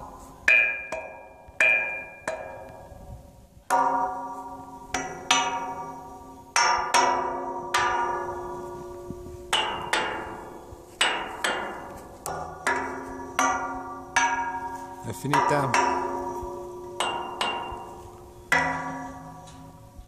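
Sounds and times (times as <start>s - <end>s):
stick striking ringing metal pipes: 0.0s - 20.0s.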